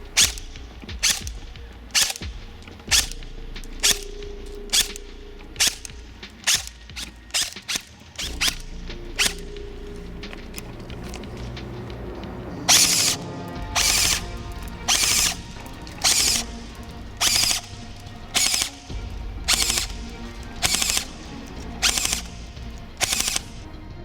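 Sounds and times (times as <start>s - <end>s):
airsoft rifle firing bursts: 0.0s - 11.4s, 12.7s - 23.6s
background music: 0.0s - 24.0s.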